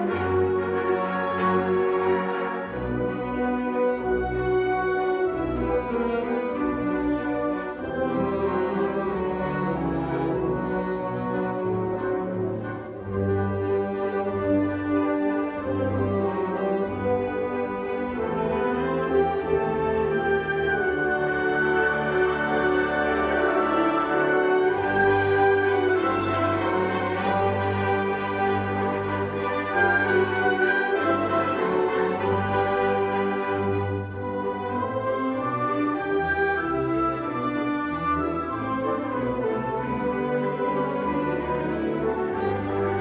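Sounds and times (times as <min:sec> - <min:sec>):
wind band playing: 0:00.0 - 0:43.0.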